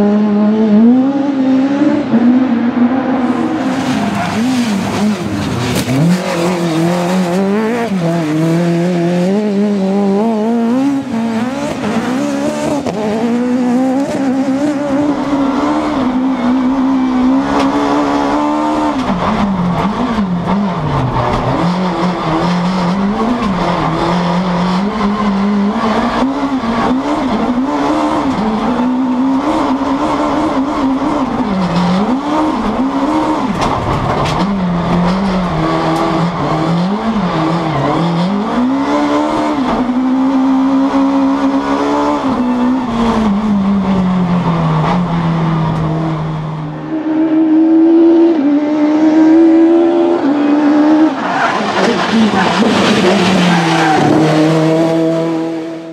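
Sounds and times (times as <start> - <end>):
racing car engine revving: 0.0 - 55.9.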